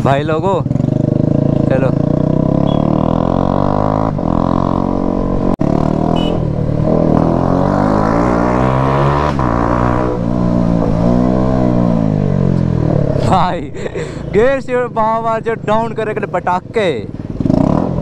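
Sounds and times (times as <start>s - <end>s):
motorcycle revving and accelerating: 0.0s - 13.6s, 17.0s - 18.0s.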